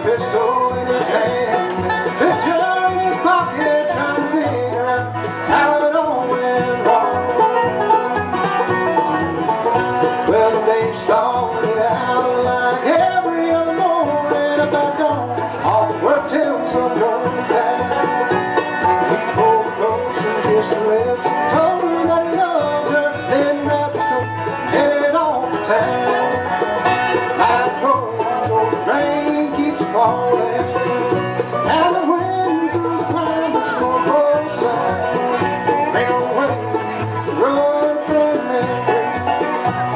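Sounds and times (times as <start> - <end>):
bluegrass band playing: 0.0 - 39.9
rolling banjo: 0.0 - 39.9.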